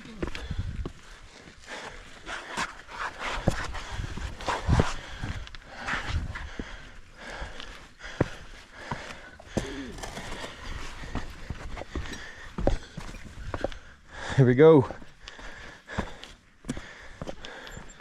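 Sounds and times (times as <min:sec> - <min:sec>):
footsteps on rocky trail: 0:00.0 - 0:18.0
heavy breathing: 0:00.0 - 0:18.0.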